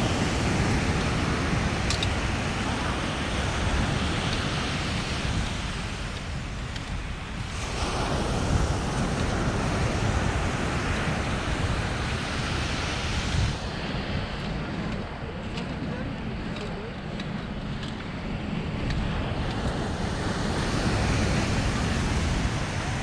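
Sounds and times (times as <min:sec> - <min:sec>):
ocean surf washing on beach: 0:00.0 - 0:23.0
wind buffeting microphone: 0:00.0 - 0:23.0.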